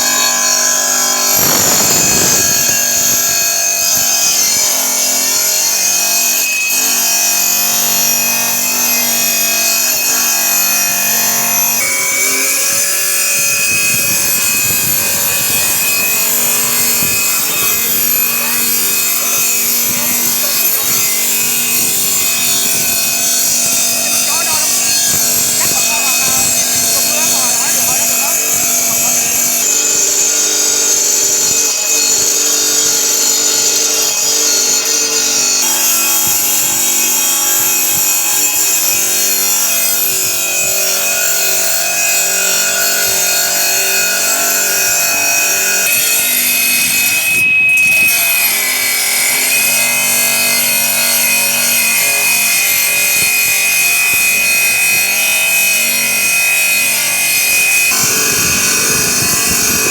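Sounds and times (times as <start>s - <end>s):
saw cutting through brick: 0.0s - 59.9s.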